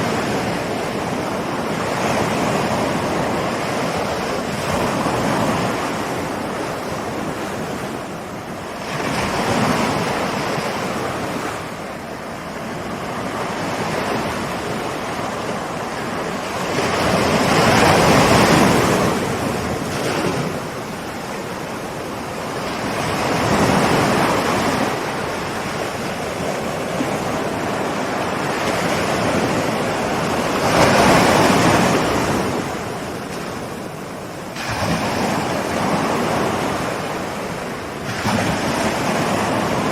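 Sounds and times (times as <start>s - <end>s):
ocean surf washing in: 0.0s - 39.9s
waves breaking: 0.0s - 39.9s.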